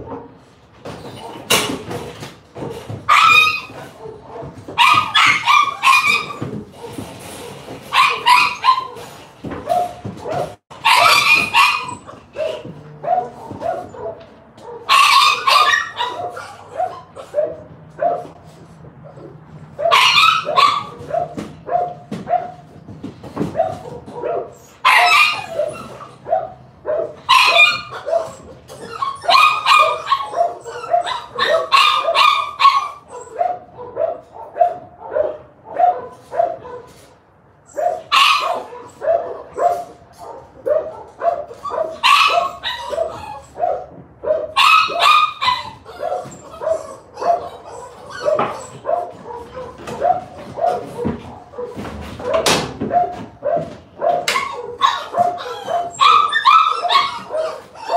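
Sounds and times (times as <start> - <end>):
loud harsh dog barks: 2.6 - 18.4, 19.7 - 22.7, 23.4 - 28.4, 29.2 - 37.0, 37.7 - 57.9.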